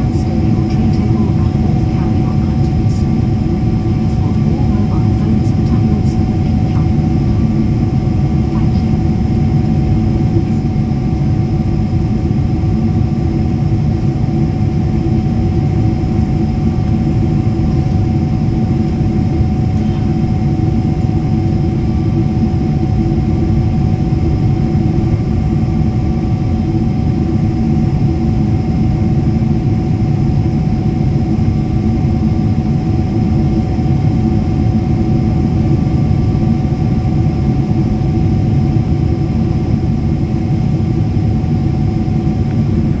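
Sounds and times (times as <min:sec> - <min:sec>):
airliner cabin engine drone: 0:00.0 - 0:43.0
faint steady whine: 0:00.0 - 0:43.0.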